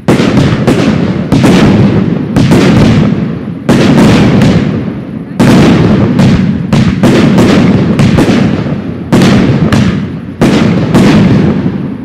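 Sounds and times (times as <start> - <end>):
fireworks bursting with loud bangs: 0.0 - 12.0.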